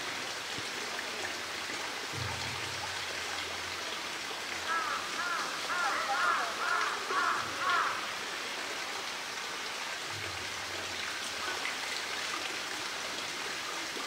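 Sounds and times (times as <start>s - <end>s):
running water hiss: 0.0s - 14.0s.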